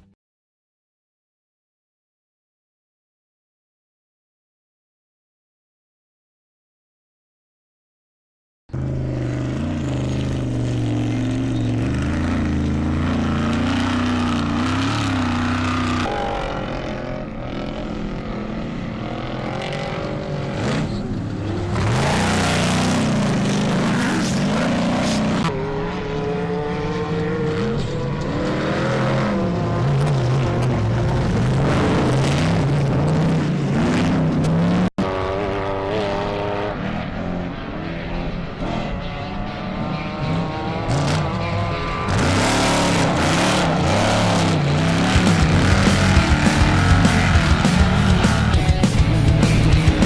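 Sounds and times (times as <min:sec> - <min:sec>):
race car engines revving: 0:08.7 - 0:50.0.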